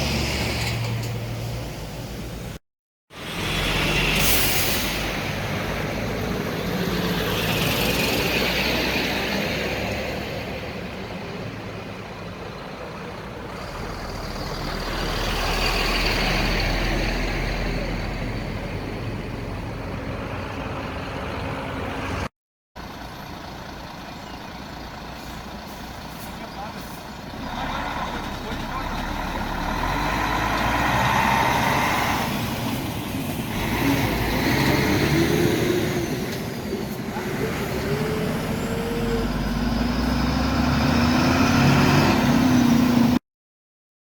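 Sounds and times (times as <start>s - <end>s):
road traffic noise: 0.0s - 43.2s
trucks passing: 0.0s - 43.2s.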